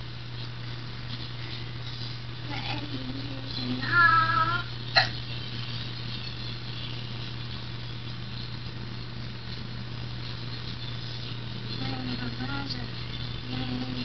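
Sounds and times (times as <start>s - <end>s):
low hum with hiss: 0.0s - 14.0s.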